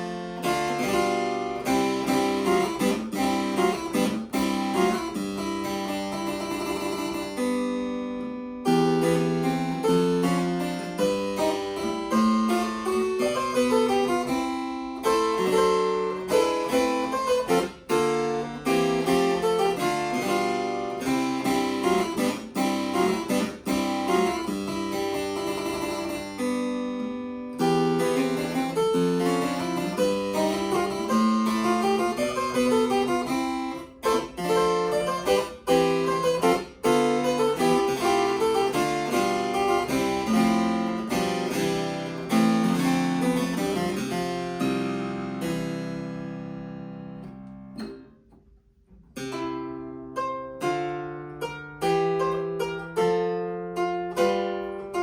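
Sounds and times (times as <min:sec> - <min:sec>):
solo harpsichord music: 0:00.0 - 0:55.0.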